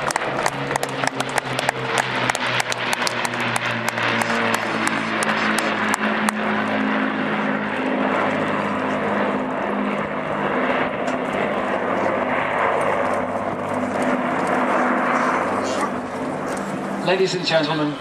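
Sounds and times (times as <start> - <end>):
aircraft piston engines droning: 0.0 - 18.0.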